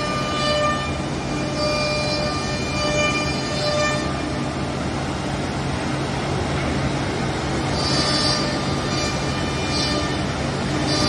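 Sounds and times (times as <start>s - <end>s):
machine hum with steady tones: 0.0s - 11.0s.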